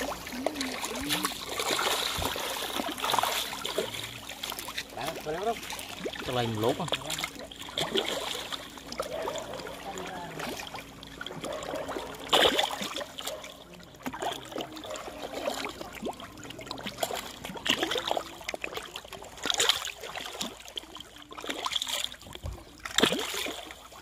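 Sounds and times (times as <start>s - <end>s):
fish splashing at water surface: 0.0s - 24.0s.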